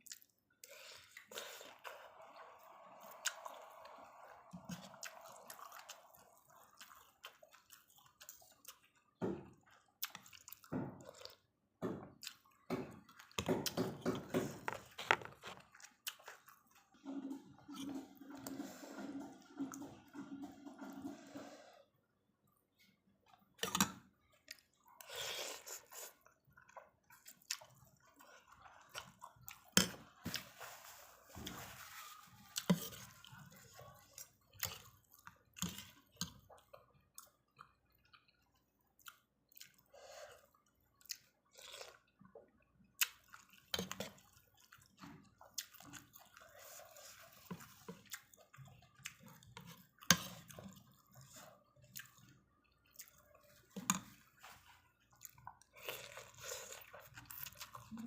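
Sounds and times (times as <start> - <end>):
person chewing: 0.0 - 11.5, 12.1 - 21.8, 23.3 - 58.0.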